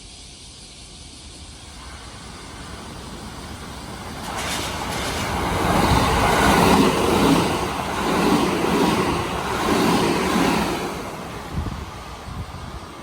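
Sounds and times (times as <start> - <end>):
electric train rumbling past: 0.0 - 13.0.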